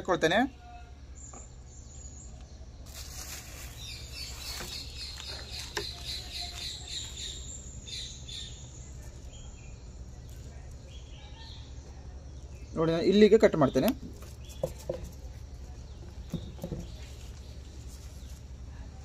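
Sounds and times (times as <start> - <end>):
bird chirping: 0.0 - 18.4
steady low hum: 0.0 - 19.0.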